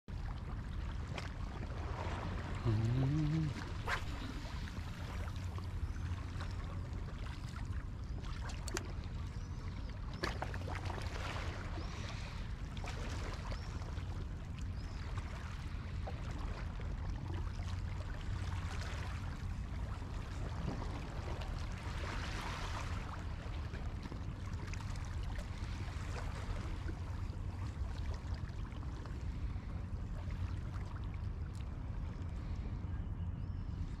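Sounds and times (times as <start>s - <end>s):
water lapping at shore: 0.1s - 33.1s.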